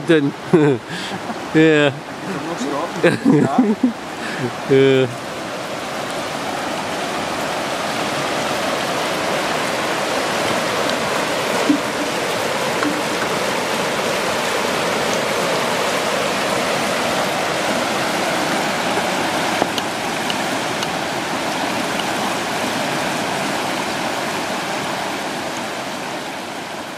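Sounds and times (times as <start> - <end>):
river rushing over rocks: 0.0 - 26.9.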